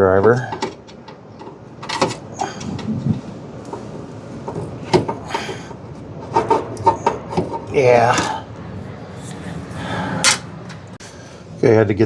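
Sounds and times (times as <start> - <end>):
hand tools clicking and rattling: 0.0 - 8.5, 9.2 - 11.4.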